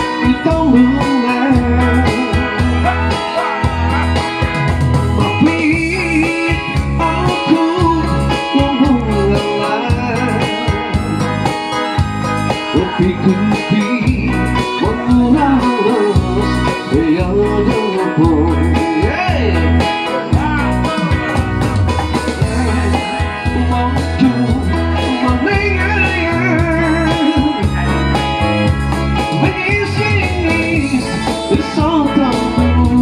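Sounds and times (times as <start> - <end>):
bass: 0.0 - 33.0
electric guitar: 0.0 - 33.0
electronic keyboard: 0.0 - 33.0
man singing into microphone: 0.0 - 33.0.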